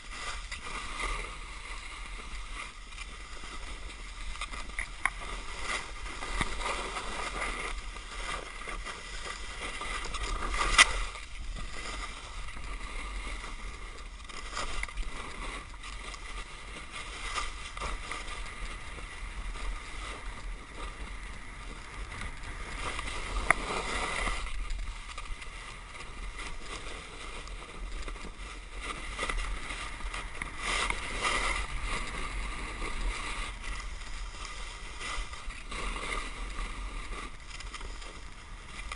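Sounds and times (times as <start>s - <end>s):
low wind rumble: 0.0s - 38.9s
snowboard scraping over snow: 0.0s - 38.9s.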